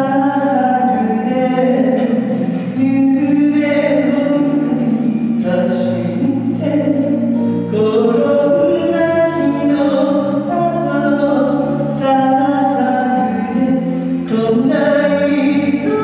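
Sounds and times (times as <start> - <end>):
electric bass: 0.0 - 16.0
person singing: 0.0 - 16.0.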